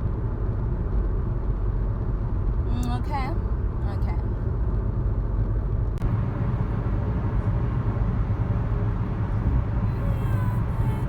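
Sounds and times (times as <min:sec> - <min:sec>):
car engine and tyres rumble: 0:00.0 - 0:11.0.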